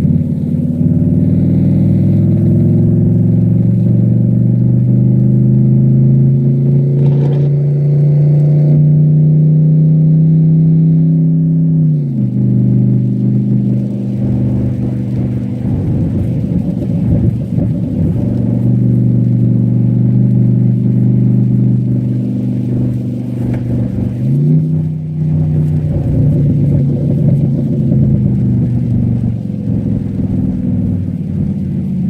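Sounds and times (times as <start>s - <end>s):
car engine revving under load: 0.0s - 32.0s.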